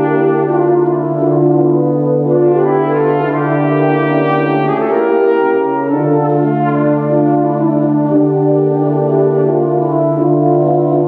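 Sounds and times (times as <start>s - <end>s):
tuba and euphonium ensemble: 0.0s - 11.0s.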